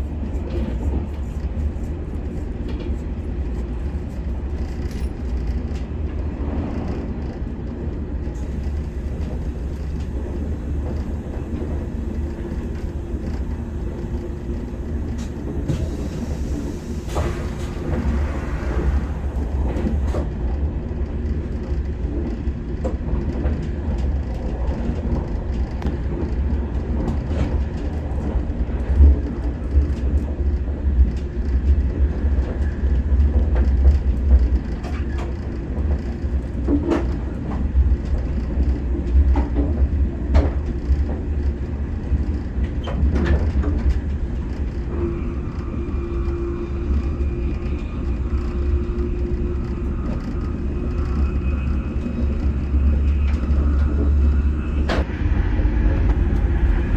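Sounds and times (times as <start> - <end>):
train low rumble: 0.0 - 56.9.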